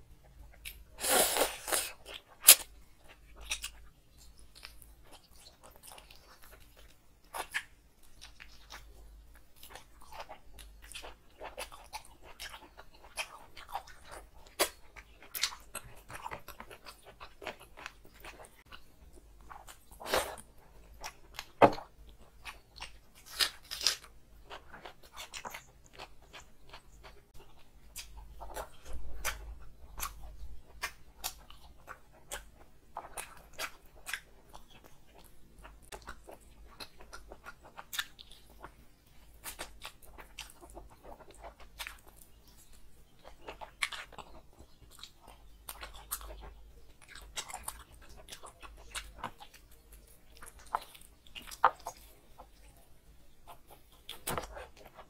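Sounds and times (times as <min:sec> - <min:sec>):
person chewing food: 0:00.1 - 0:55.0.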